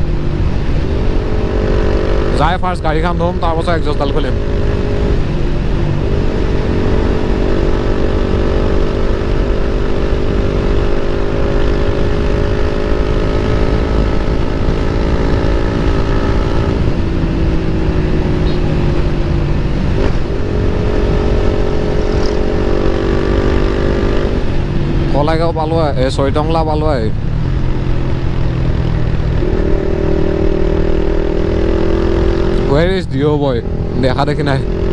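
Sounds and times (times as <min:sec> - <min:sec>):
wind rumble on microphone: 0:00.0 - 0:33.0
motorcycle engine cruising: 0:00.0 - 0:34.9.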